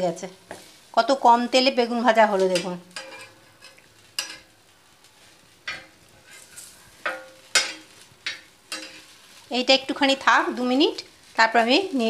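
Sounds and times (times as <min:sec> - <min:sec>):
faint frying sizzle: 0:00.0 - 0:12.0
metal spatula scraping a griddle: 0:02.3 - 0:12.0.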